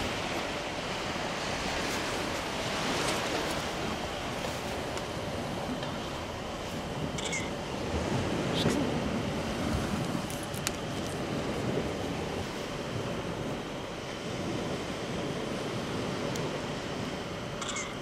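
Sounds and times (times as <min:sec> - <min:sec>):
surf on a beach: 0:00.0 - 0:18.0
wind: 0:00.0 - 0:18.0.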